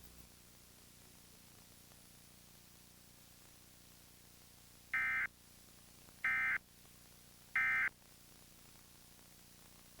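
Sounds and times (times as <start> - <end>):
faint tape hiss: 0.0 - 10.0.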